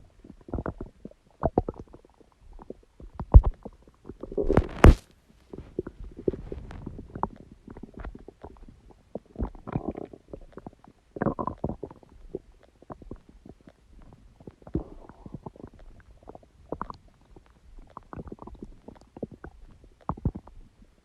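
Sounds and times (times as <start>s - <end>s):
stomach gurgling and rumbling: 0.0s - 21.0s.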